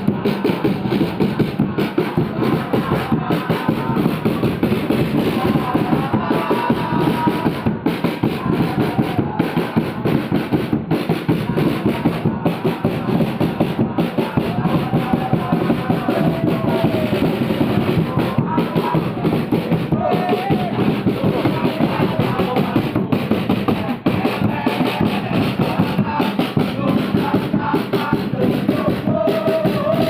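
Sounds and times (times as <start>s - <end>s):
beating drum: 0.0s - 30.0s
crowd chanting and singing: 0.0s - 30.0s.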